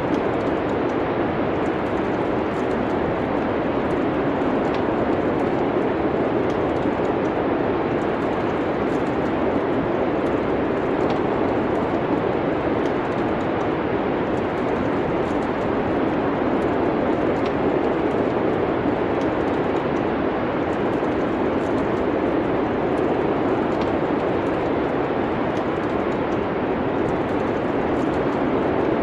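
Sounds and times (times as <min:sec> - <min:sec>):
steady rushing noise: 0:00.0 - 0:29.0
wood fire crackling: 0:00.0 - 0:29.0.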